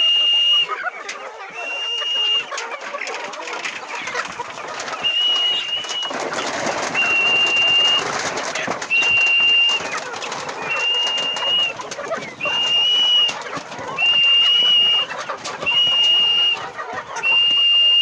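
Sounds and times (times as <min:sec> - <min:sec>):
bird calls: 0:00.0 - 0:18.0
birds fluttering: 0:00.0 - 0:18.0.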